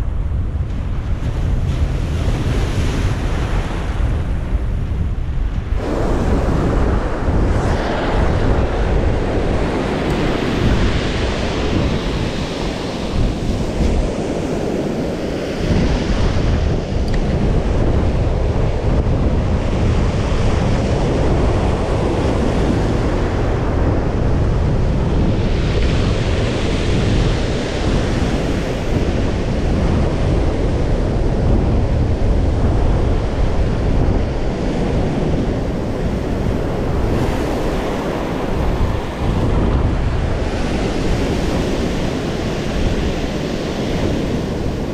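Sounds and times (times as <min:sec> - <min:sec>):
wind rumbling on microphone: 0:00.0 - 0:44.9.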